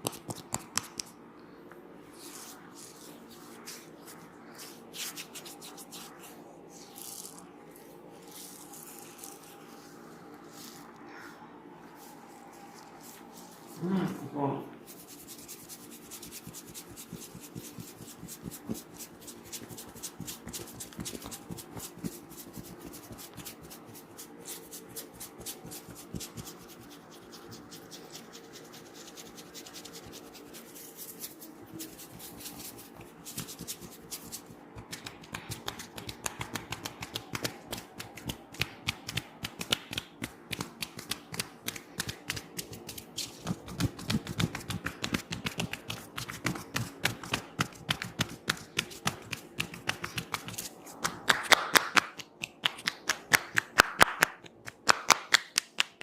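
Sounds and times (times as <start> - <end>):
hands rubbing through hair: 2.1 - 56.0.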